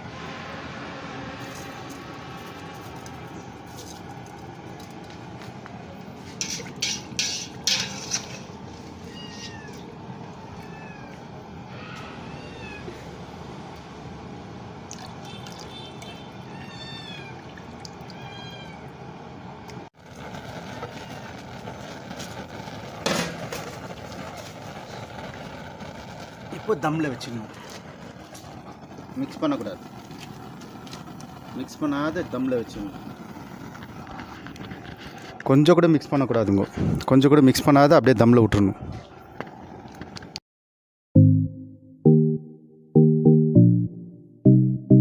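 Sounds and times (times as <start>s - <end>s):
steady background noise: 0.0s - 38.4s.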